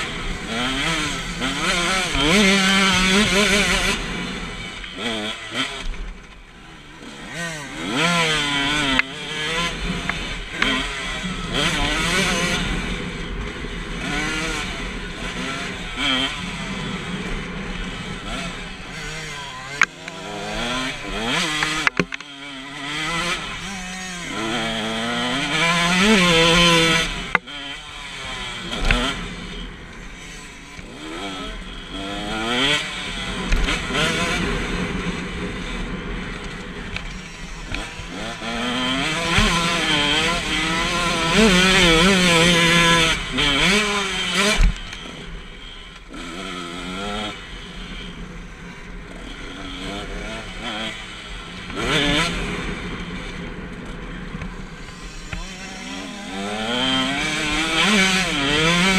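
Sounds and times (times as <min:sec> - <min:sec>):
motocross engine revving: 0:00.0 - 0:58.9.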